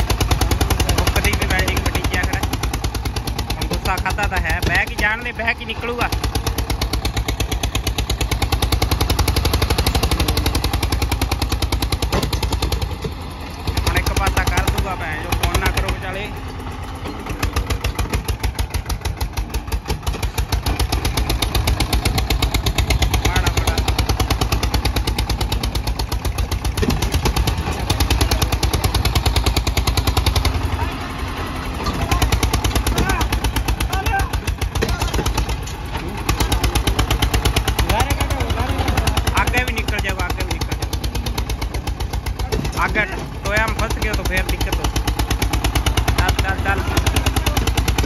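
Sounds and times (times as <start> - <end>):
tractor diesel engine straining: 0.0 - 48.0.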